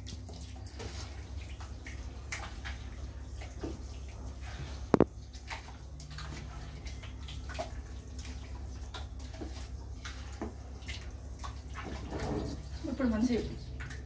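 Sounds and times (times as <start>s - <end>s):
wet squelches of meat in marinade: 0.0s - 14.0s.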